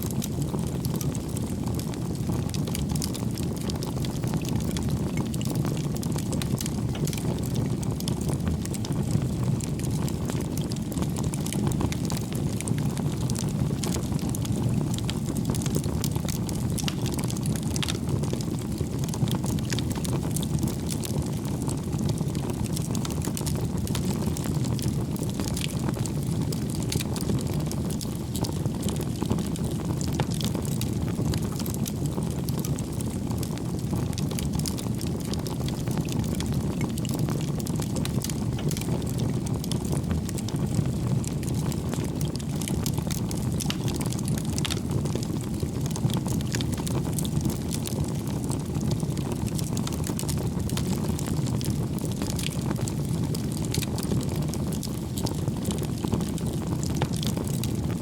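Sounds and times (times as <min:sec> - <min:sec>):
fire crackling and popping: 0:00.0 - 0:58.0
flames rushing: 0:00.1 - 0:57.9.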